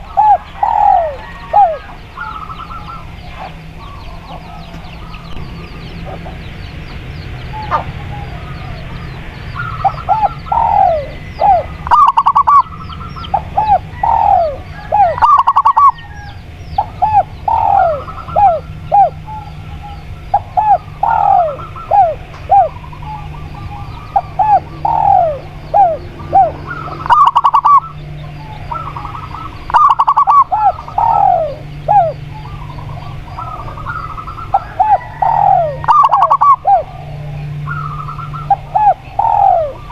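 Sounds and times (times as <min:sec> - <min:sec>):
doves cooing: 0:00.0 - 0:39.9
steady low hum: 0:00.0 - 0:39.9.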